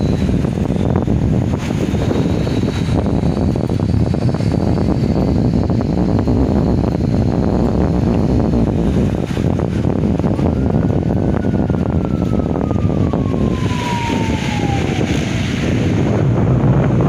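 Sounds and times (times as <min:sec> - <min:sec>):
high whine sliding down: 0:00.0 - 0:17.0
wind buffeting microphone: 0:00.0 - 0:17.0.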